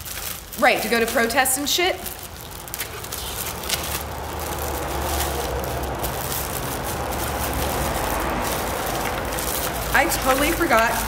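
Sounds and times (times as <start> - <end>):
rustling and handling object: 0.0 - 11.0
steady low rumble: 2.0 - 11.0.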